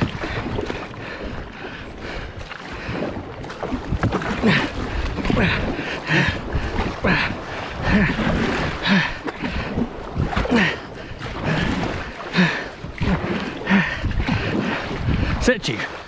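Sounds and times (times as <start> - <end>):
wind on microphone: 0.0 - 15.9
paddle strokes splashing water: 0.0 - 16.0.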